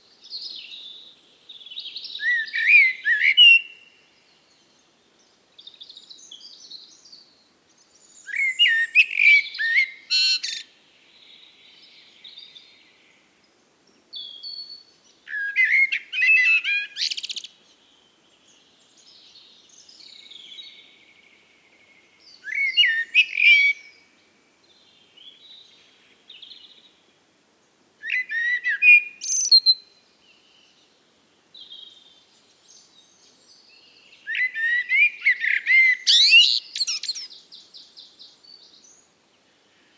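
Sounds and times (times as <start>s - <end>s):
songbird singing intricate phrases: 0.0s - 39.9s
softer bird twittering calls: 0.1s - 27.0s, 27.6s - 30.9s, 31.5s - 39.9s.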